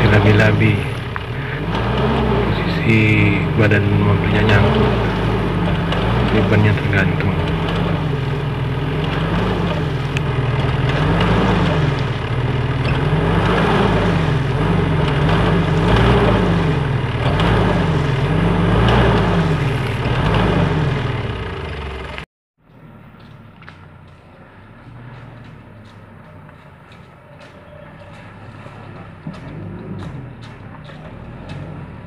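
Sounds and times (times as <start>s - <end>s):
pickup engine revving: 0.0s - 32.0s.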